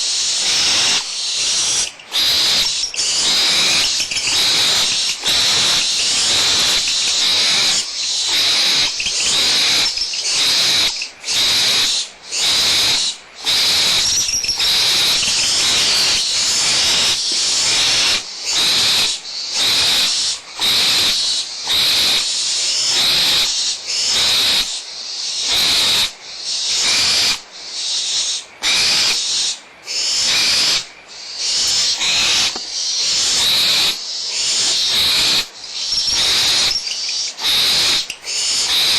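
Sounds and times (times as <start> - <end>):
owl chicks hissing: 0.0 - 38.9.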